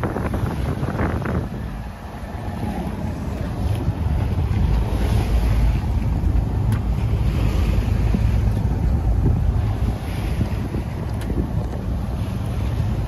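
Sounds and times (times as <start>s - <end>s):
sea rushing: 0.0s - 13.0s
wind buffeting microphone: 0.0s - 13.0s.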